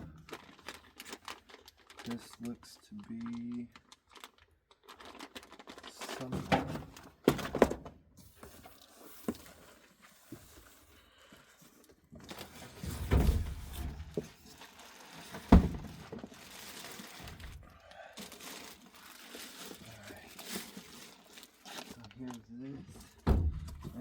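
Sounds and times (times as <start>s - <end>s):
plastic and cardboard crinkling: 0.0s - 24.0s.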